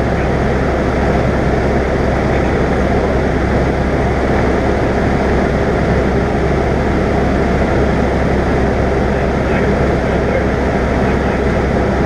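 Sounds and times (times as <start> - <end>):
airplane engine drone in cockpit: 0.0 - 12.0.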